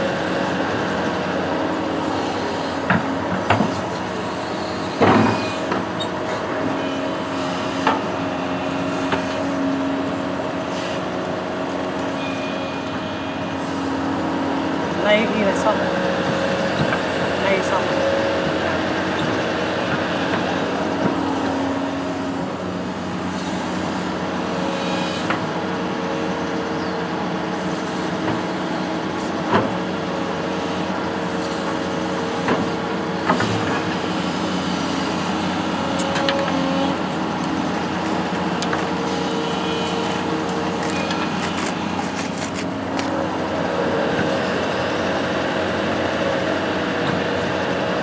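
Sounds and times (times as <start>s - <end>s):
construction machine engine running: 0.0s - 48.0s.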